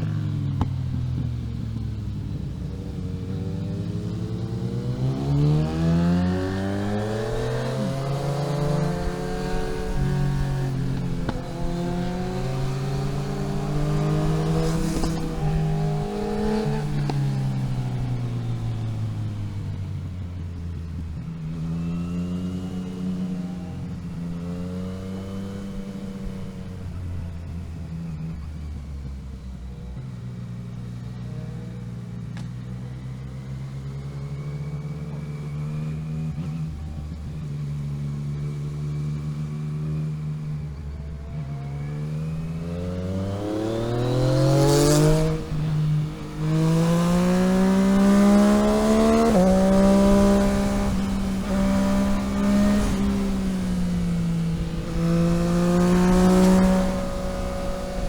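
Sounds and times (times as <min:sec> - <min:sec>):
car engine accelerating through gears: 0:00.0 - 0:58.0.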